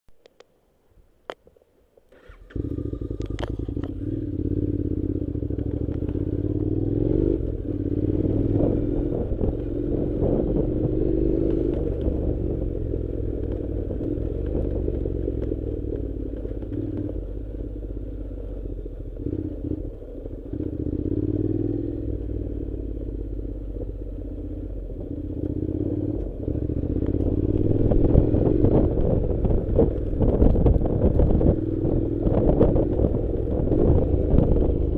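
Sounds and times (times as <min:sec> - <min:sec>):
motorcycle engine revving: 0:02.1 - 0:34.9.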